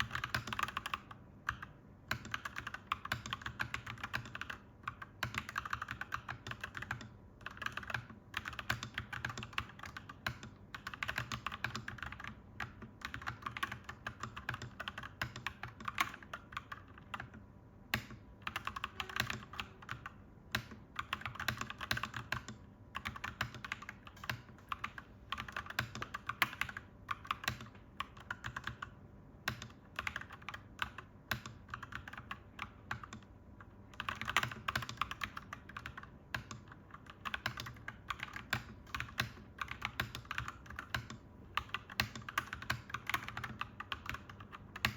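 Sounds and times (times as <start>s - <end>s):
mechanical keyboard typing: 0.0s - 44.9s.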